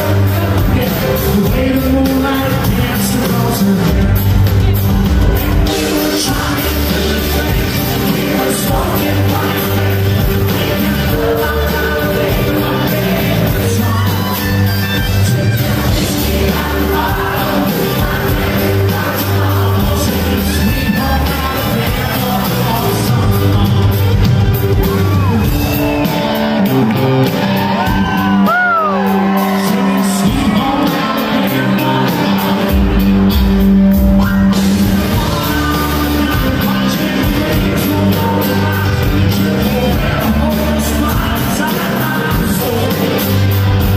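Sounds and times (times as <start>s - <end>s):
crowd shouting and whooping: 0.0s - 43.9s
drums: 0.0s - 43.9s
electric guitars: 0.0s - 43.9s
lead singer singing: 0.0s - 43.9s.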